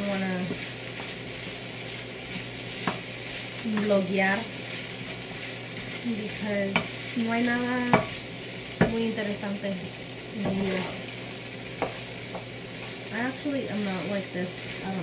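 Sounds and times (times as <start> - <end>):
food sizzling in a frying pan: 0.0 - 15.0
low humming tones: 0.0 - 15.0.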